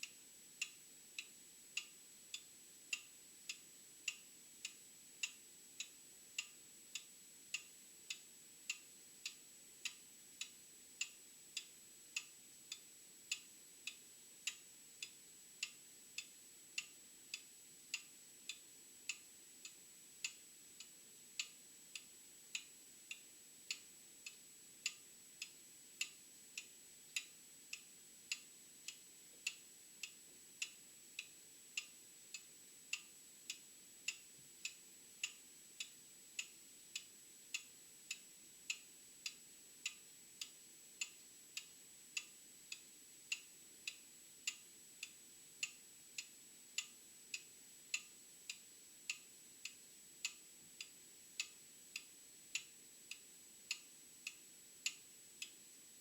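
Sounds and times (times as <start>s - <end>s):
mechanical clock ticking: 0.0s - 55.6s.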